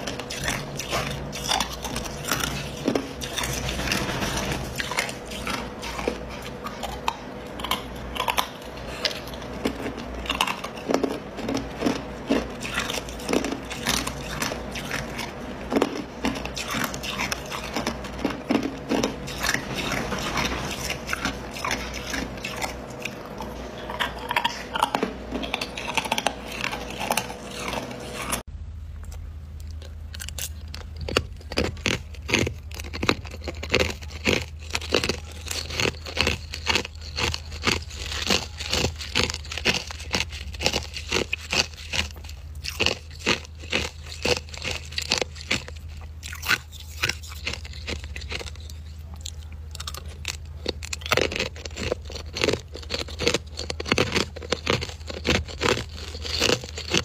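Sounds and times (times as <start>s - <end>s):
ice crunching and cracking: 0.0s - 28.4s, 30.1s - 57.0s
steady low hum: 0.0s - 57.0s.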